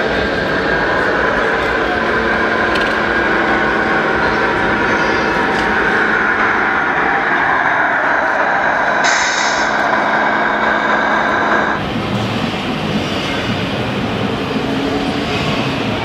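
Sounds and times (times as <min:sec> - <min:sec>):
loud indoor crowd din: 0:00.0 - 0:16.0.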